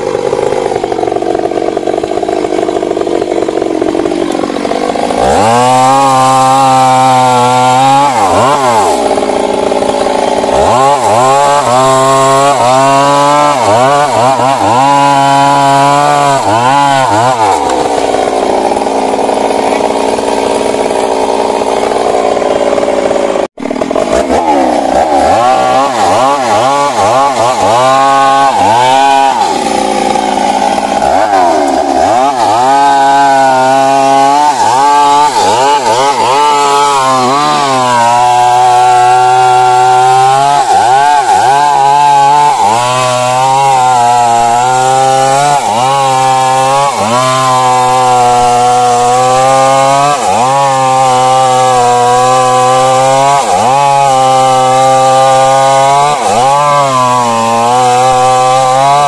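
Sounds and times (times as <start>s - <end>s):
chainsaw cutting tree revving: 0.0s - 59.0s.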